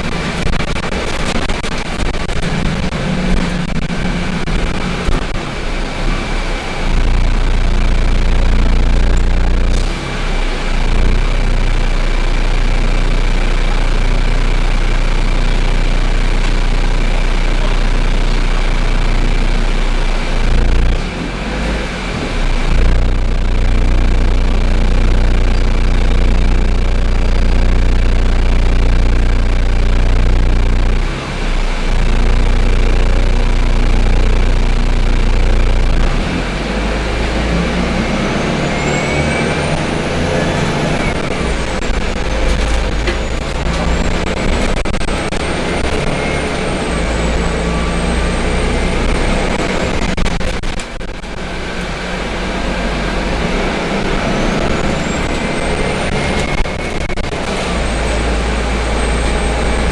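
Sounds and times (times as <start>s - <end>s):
bus diesel engine humming: 0.0s - 59.9s.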